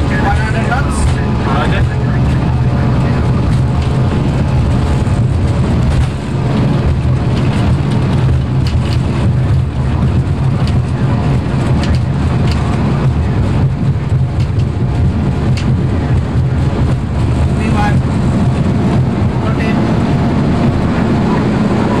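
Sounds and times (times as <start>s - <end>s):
jet engines rumbling: 0.0s - 22.0s
rushing air: 0.0s - 22.0s
wheels on runway: 0.0s - 22.0s.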